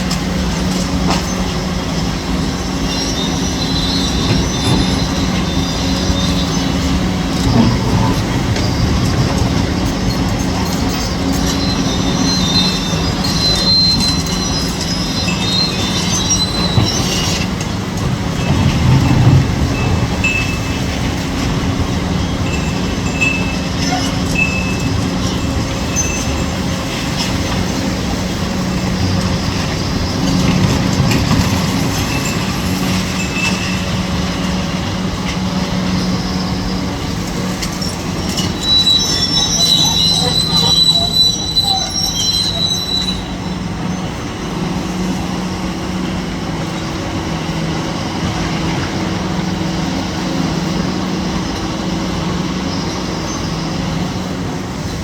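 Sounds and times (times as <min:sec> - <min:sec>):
high metallic squeals: 0:00.0 - 0:54.9
excavator diesel engine droning: 0:00.0 - 0:55.0.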